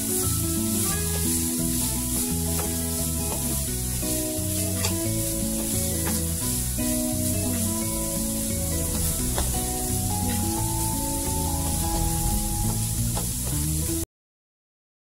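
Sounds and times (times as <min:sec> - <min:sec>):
spatula stirring food: 0:00.0 - 0:13.5
background music: 0:00.0 - 0:14.0
food sizzling in a frying pan: 0:00.0 - 0:14.0.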